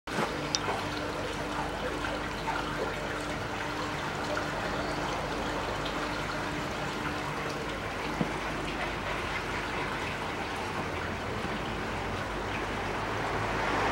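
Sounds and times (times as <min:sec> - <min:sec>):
water trickling: 0:00.1 - 0:13.9
faint steady hum: 0:00.2 - 0:13.4.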